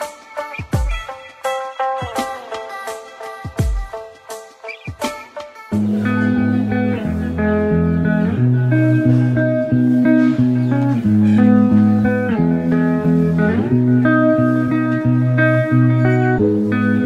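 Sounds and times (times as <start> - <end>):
plucked guitar: 0.0 - 17.0.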